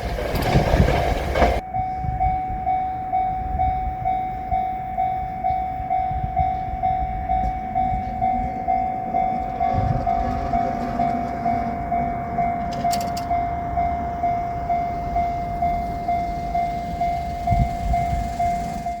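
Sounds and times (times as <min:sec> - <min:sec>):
low rumble: 0:00.0 - 0:19.0
level crossing bell ringing: 0:01.6 - 0:19.0.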